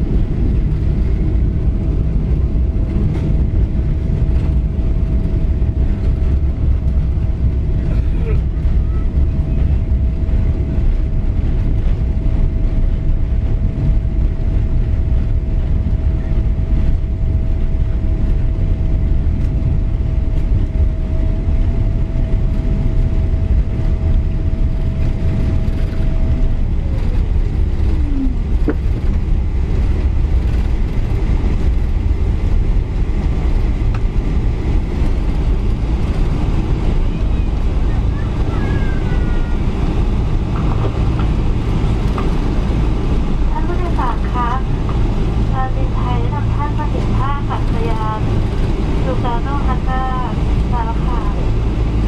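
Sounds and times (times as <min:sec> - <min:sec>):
deep rumble of engines and gear: 0:00.0 - 0:52.0.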